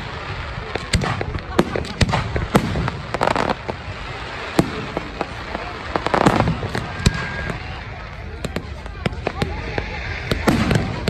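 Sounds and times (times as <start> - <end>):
fireworks bangs and pops: 0.0 - 11.0
fireworks crackling: 0.0 - 11.0.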